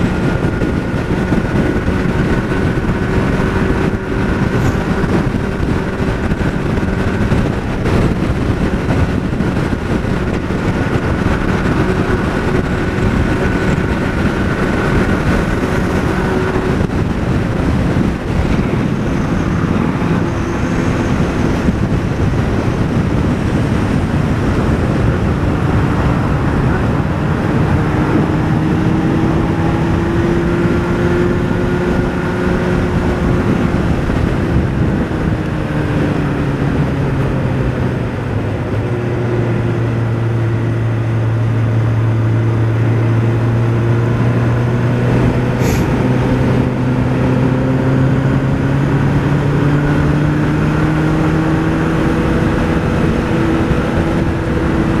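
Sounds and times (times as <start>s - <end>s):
motorcycle engine cruising: 0.0s - 55.0s
wind rush: 0.0s - 55.0s.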